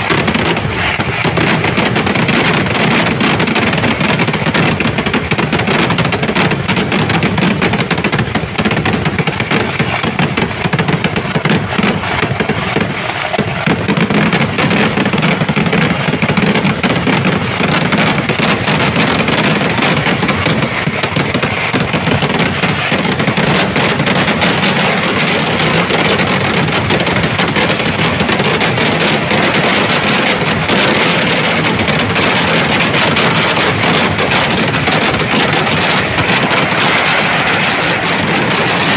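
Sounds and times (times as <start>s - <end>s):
firecracker barrage: 0.0s - 38.9s.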